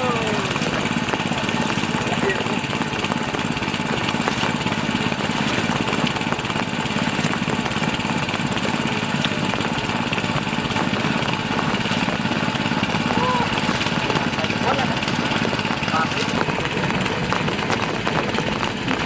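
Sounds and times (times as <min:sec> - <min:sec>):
engine-driven water pump running: 0:00.0 - 0:19.0.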